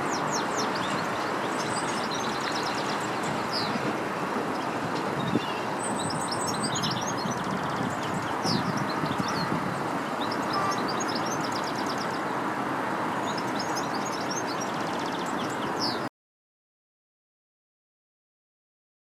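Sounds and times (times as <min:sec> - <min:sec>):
distant traffic rumble: 0:00.0 - 0:16.1
songbirds chirping and twittering: 0:00.0 - 0:16.1.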